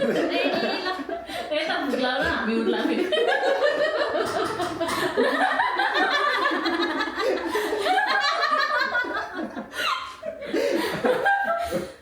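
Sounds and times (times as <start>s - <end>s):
group of people laughing: 0.0s - 1.5s, 2.7s - 12.0s.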